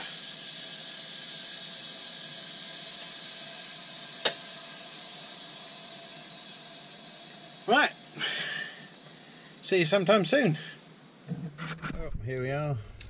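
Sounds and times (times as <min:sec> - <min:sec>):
compressed air hissing: 0:00.0 - 0:11.6.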